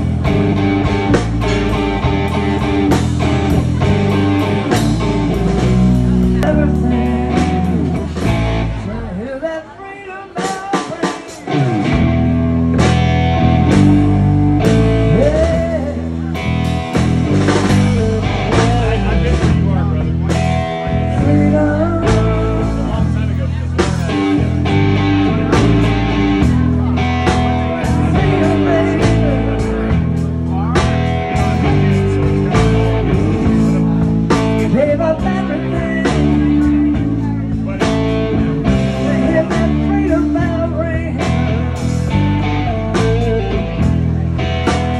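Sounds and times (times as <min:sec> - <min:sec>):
bass: 0:00.0 - 0:44.9
blues rock band playing: 0:00.0 - 0:44.9
drums: 0:00.0 - 0:44.9
electric guitar lead: 0:00.0 - 0:44.9.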